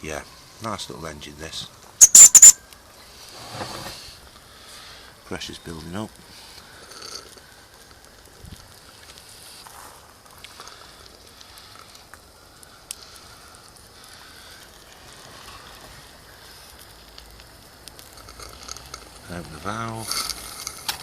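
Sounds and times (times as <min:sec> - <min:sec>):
gas burner hissing: 0:00.0 - 0:21.0.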